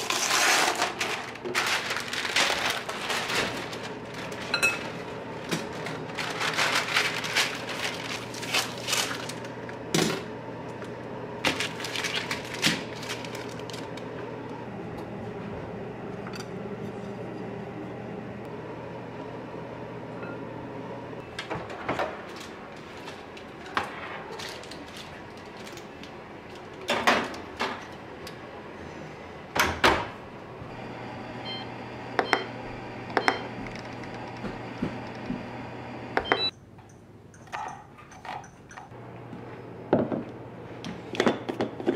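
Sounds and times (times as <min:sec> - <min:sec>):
steady appliance hum: 0:00.0 - 0:41.9.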